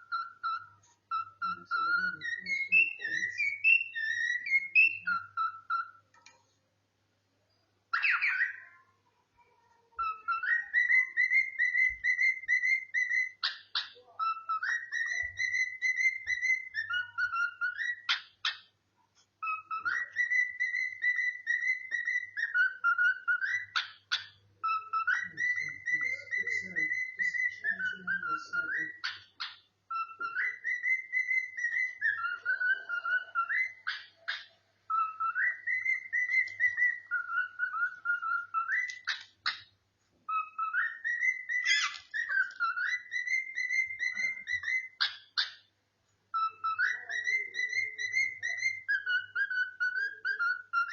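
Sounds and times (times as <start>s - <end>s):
cockatiel whistling a melody: 0.0s - 6.0s, 7.9s - 8.8s, 10.0s - 18.7s, 19.4s - 45.7s, 46.3s - 50.9s.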